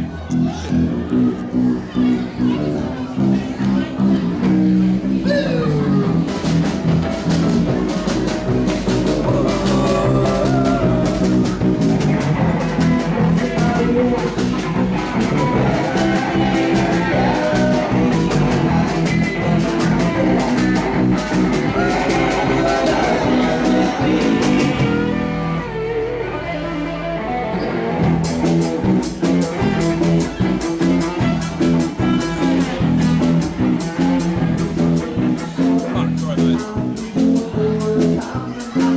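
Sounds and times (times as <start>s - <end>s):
electric guitar: 0.0s - 38.9s
drum kit: 4.2s - 25.7s, 28.0s - 38.9s.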